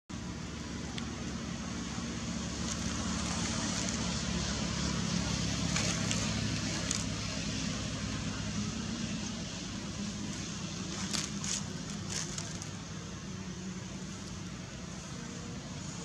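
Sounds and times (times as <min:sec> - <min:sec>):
low engine-like hum: 0:00.1 - 0:16.0.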